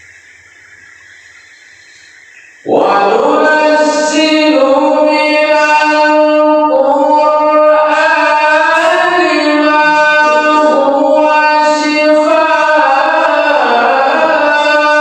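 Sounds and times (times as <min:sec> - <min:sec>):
man reciting melodically: 0:02.6 - 0:15.0.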